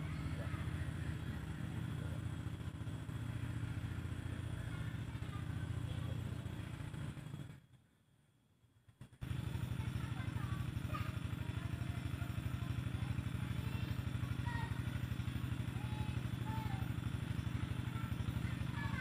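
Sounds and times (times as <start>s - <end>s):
small engine pulsing rumble: 0.0s - 19.0s.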